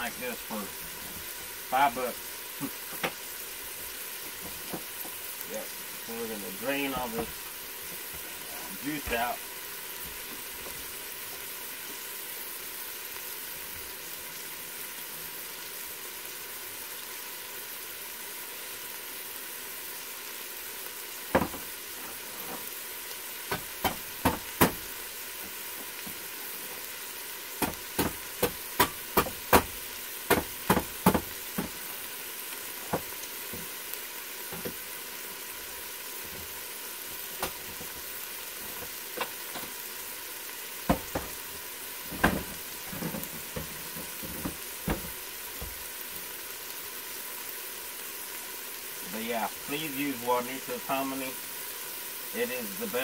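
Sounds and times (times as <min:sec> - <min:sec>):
vegetables sizzling hiss: 0:00.0 - 0:53.0.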